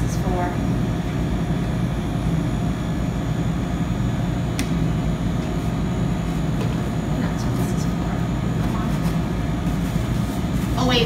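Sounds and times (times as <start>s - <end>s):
kitchen machinery drone: 0.0s - 11.0s.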